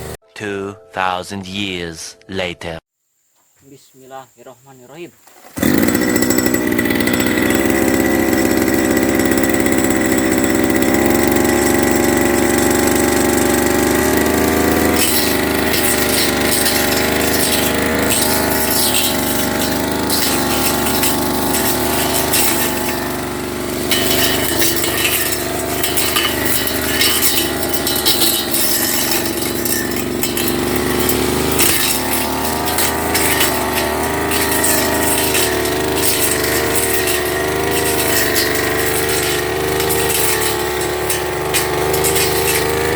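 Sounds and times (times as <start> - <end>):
clatter of cutting grass: 5.2 - 42.9
brush cutter engine running: 5.3 - 42.9.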